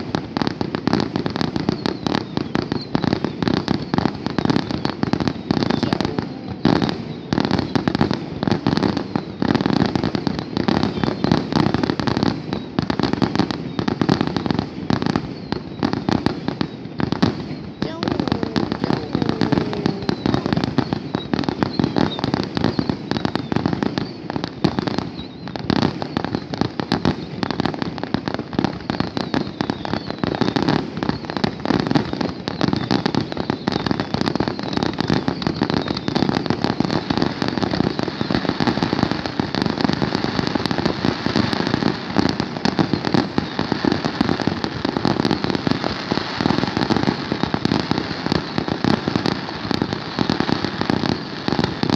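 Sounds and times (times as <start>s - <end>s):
fireworks bursting and crackling: 0.0s - 51.9s.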